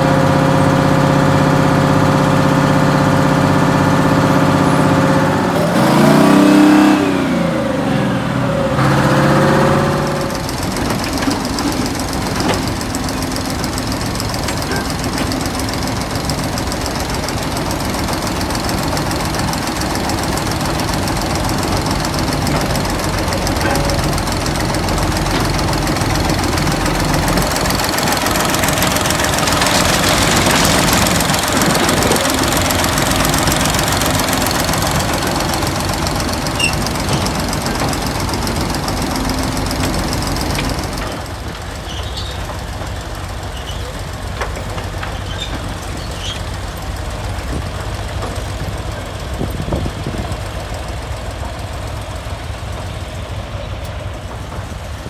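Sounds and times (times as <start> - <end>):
heavy diesel engine clattering: 0.0 - 55.0.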